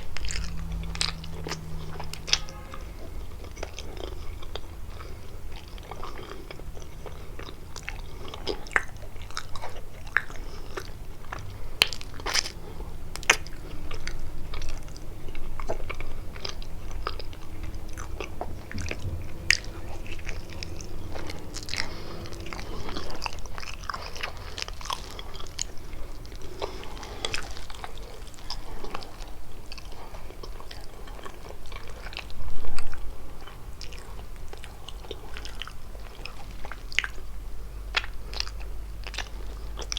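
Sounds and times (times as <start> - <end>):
biting and chewing pastry: 0.0 - 39.9.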